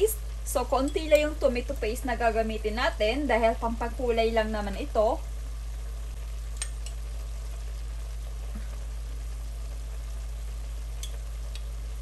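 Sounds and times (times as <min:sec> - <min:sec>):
low hum: 0:00.0 - 0:12.0
stew sizzling and simmering: 0:00.0 - 0:12.0.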